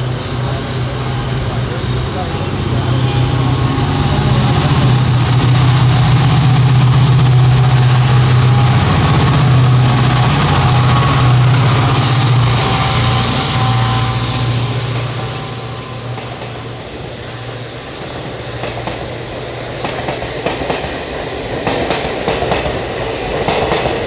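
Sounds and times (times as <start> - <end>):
diesel locomotive engine drone: 0.0 - 24.0
wheels rushing on rails: 0.0 - 24.0.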